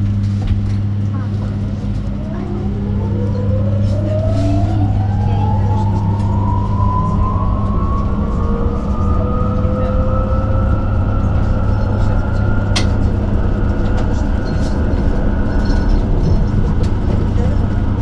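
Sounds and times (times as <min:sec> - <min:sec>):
low cabin hum: 0:00.0 - 0:18.0.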